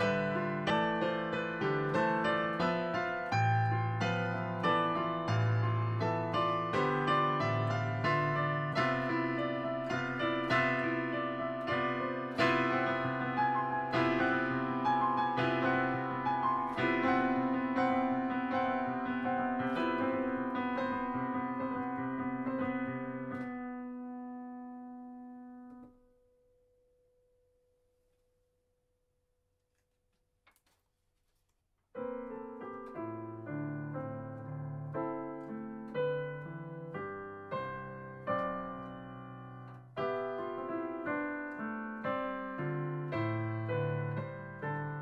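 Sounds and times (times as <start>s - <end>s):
piano playing chords: 0.0s - 26.1s, 32.0s - 45.0s.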